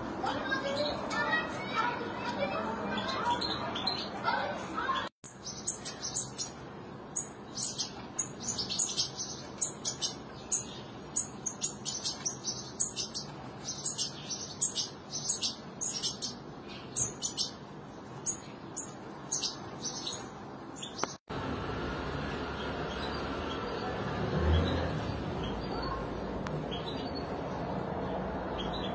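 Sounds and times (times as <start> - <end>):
birds chirping: 0.0 - 21.2, 22.3 - 28.9.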